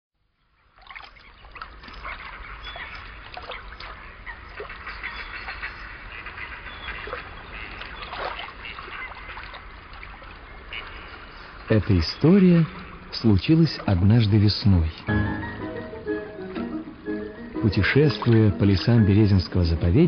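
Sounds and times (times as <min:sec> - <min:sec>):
water splashing and trickling: 0:00.2 - 0:20.0.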